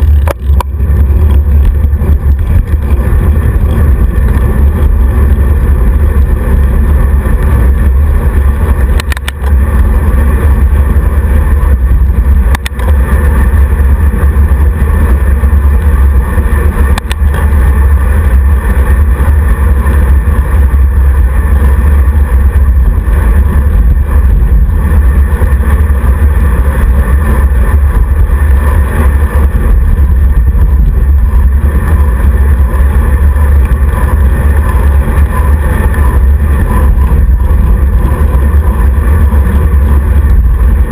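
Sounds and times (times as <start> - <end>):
road and tyre noise: 0.0 - 40.9
wind rumble on microphone: 0.0 - 40.9.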